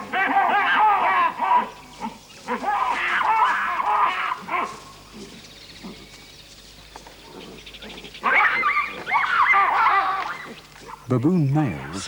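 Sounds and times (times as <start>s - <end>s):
baboons yelping and barking: 0.0s - 12.0s.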